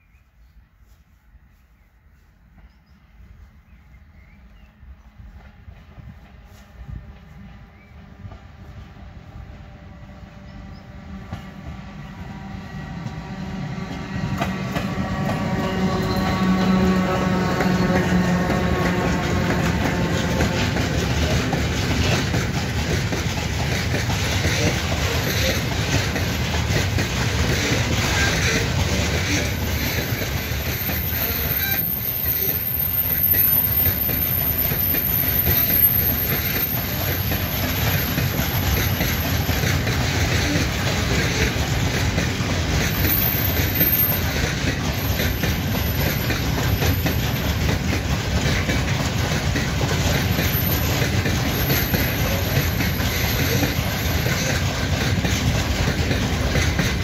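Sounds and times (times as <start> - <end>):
train wheels clacking over joints: 11.1 - 57.0.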